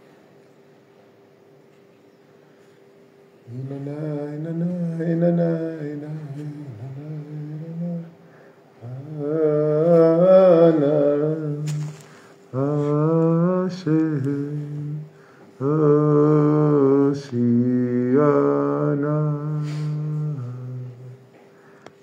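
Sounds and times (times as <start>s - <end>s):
man singing wordless melody: 3.5s - 21.4s.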